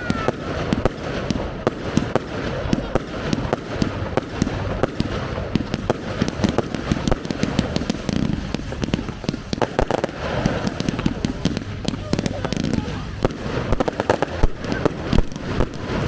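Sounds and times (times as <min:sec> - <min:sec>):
continuous rumble: 0:00.0 - 0:16.0
fireworks bangs and crackles: 0:00.0 - 0:16.0.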